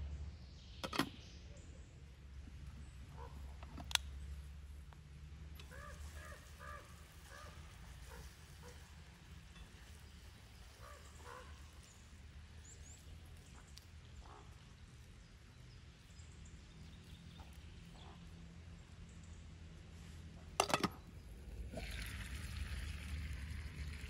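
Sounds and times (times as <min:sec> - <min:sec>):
low steady rumble: 0:01.6 - 0:24.0.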